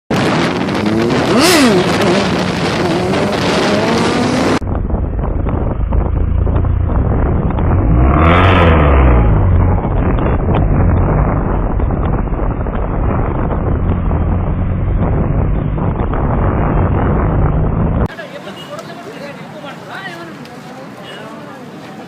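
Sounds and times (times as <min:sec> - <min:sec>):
wind on microphone: 0:00.1 - 0:18.1
motorcycle engine revving: 0:00.2 - 0:18.1.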